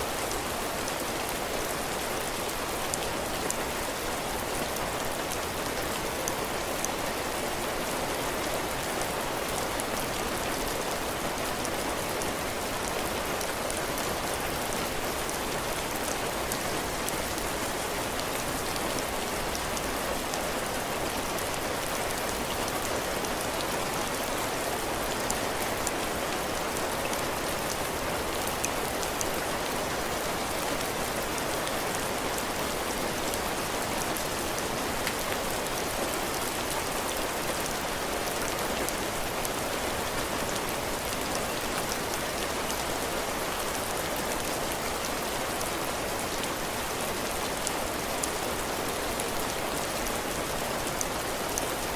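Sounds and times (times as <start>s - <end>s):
heavy rain on roof: 0.0s - 51.9s.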